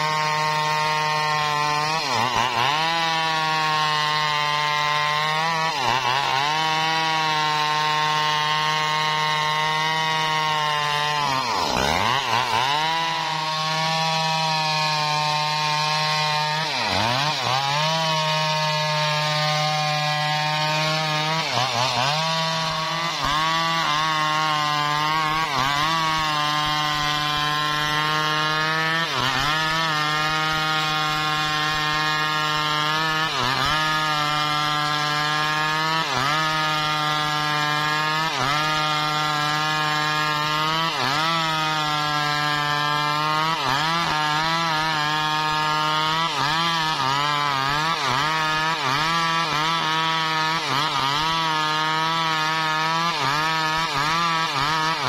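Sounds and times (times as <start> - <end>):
chainsaw cutting through log: 0.0 - 55.0.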